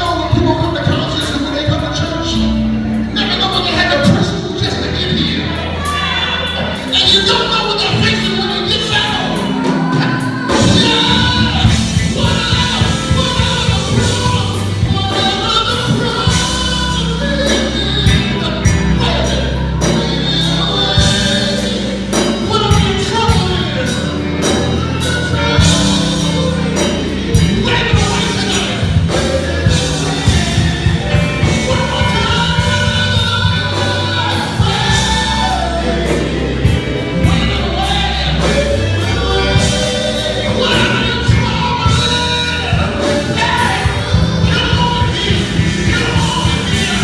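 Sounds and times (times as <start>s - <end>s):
gospel choir singing: 0.0s - 47.0s
steady beat and bass: 0.0s - 47.0s.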